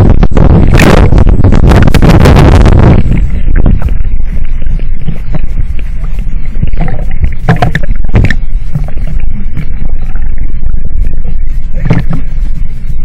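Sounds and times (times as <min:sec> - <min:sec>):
water splashes: 0:00.0 - 0:12.9
rumbling water: 0:00.0 - 0:13.0.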